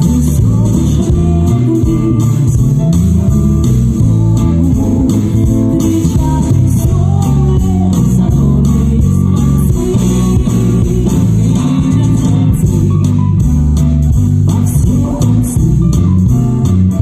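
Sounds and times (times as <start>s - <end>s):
woman singing: 0.0s - 3.0s, 3.8s - 13.5s, 14.4s - 16.4s
bass guitar: 0.0s - 17.0s
drum kit: 0.0s - 17.0s
electric guitar: 0.0s - 17.0s.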